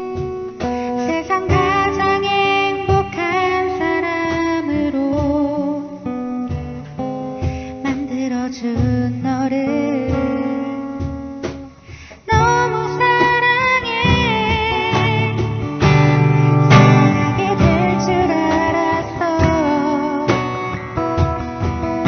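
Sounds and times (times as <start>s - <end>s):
woman singing a slow ballad: 0.0s - 6.2s, 7.3s - 21.1s
acoustic guitar strumming: 0.0s - 22.0s.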